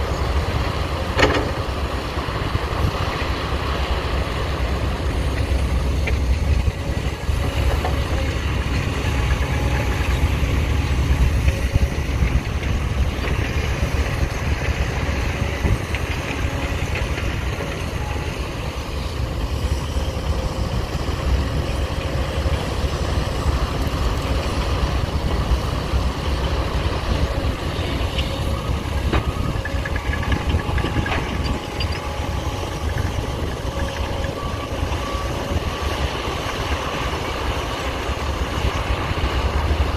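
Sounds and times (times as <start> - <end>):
diesel machinery engine rumble: 0.0 - 39.9.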